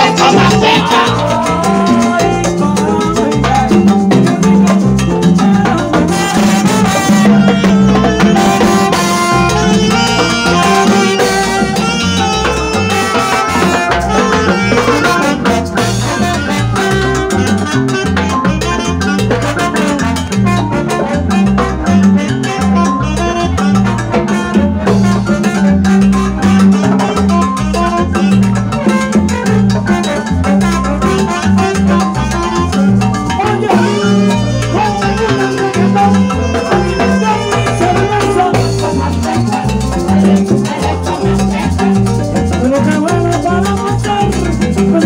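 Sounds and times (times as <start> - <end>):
live salsa music: 0.0 - 45.0.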